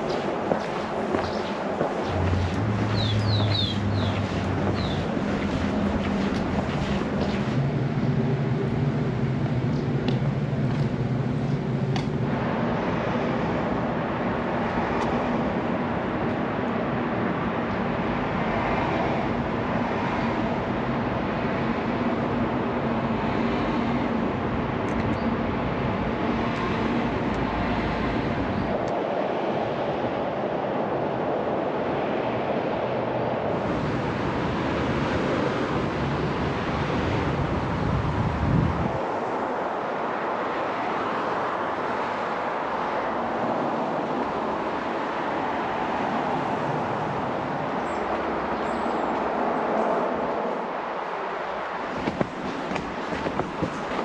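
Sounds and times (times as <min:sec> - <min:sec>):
road traffic rushing: 0:00.0 - 0:54.0
wind rumble on microphone: 0:00.0 - 0:54.0.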